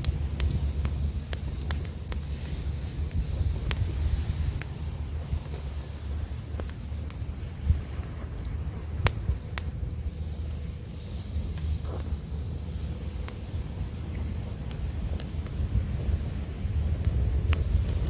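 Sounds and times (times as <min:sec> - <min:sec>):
campfire crackling: 0:00.0 - 0:18.0
wind rumble on microphone: 0:00.0 - 0:18.0.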